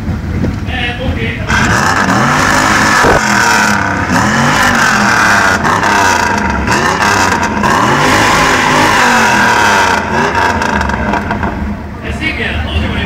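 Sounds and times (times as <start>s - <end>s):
car engine revving: 1.1s - 11.9s.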